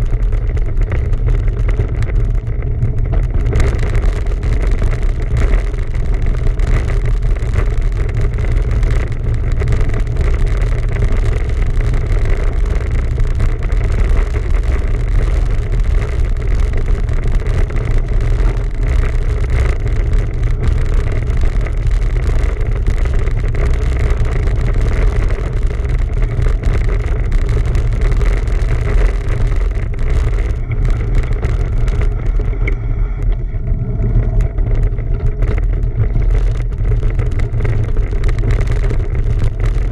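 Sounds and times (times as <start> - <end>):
bicycle ride hum: 0.0 - 39.9
wind rumble on microphone: 0.0 - 39.9.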